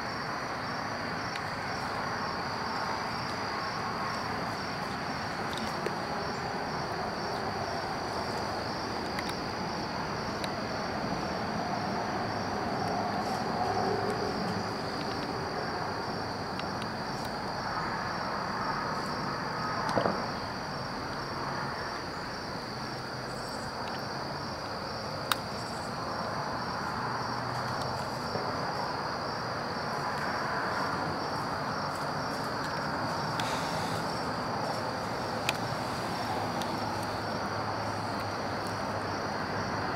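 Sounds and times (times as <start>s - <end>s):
crickets droning: 0.0s - 39.9s.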